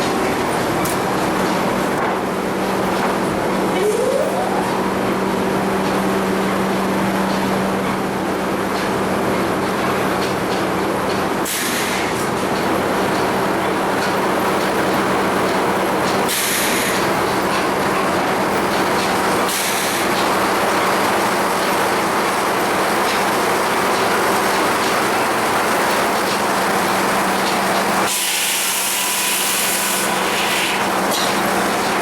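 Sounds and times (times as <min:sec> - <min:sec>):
sawmill machinery rattling rumble: 0:04.7 - 0:32.0.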